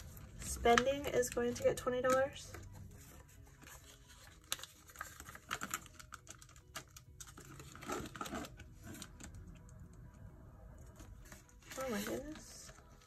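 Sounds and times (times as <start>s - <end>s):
paper and plastic rustling: 0.0s - 9.6s, 10.8s - 13.0s.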